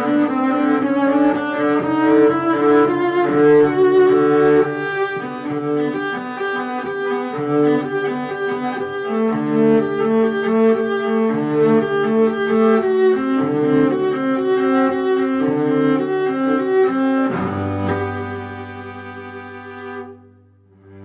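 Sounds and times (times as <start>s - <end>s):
bowed strings led by cello: 0.0s - 21.0s.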